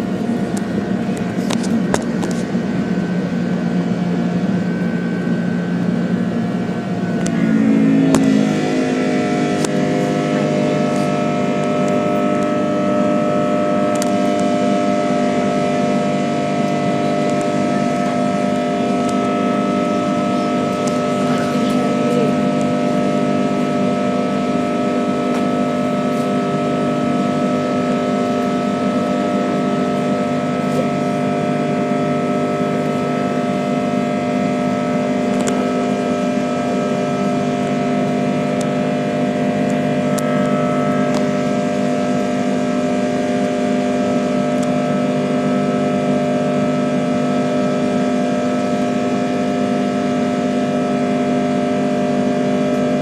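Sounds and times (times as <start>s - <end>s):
jet engine drone in cabin: 0.0s - 53.0s.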